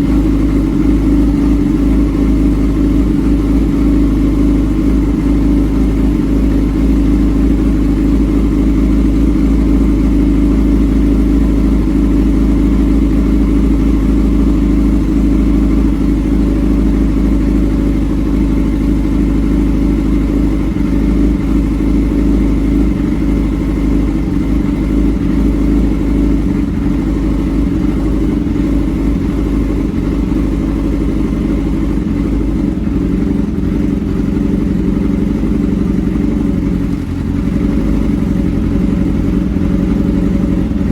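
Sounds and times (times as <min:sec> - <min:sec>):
motorcycle engine running loud: 0:00.0 - 0:40.9.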